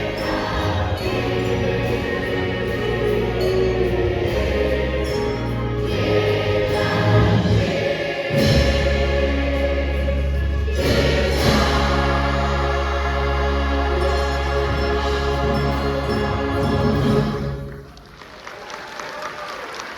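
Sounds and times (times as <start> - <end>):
choir singing: 0.0 - 18.0
instrumental accompaniment: 0.0 - 18.1.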